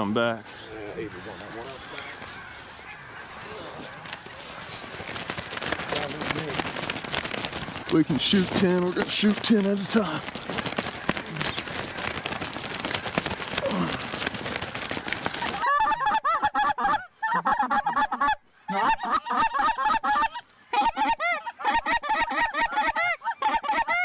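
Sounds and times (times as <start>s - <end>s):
geese honking: 0.5s - 24.0s.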